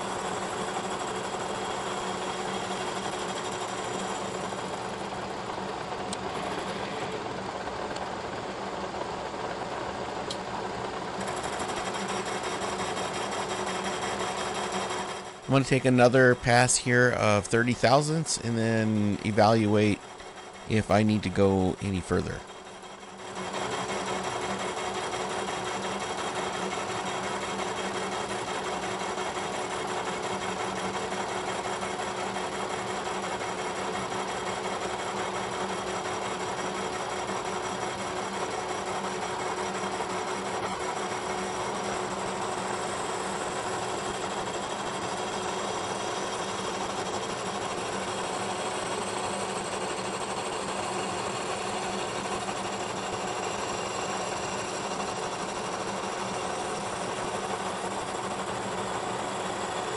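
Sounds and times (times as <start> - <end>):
milling machine cutting metal: 0.0 - 10.0, 11.0 - 59.9.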